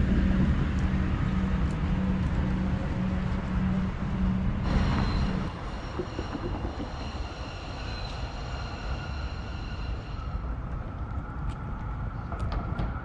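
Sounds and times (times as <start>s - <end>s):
high multi-tone whine: 0.0s - 10.9s
steady low hum: 0.0s - 13.0s.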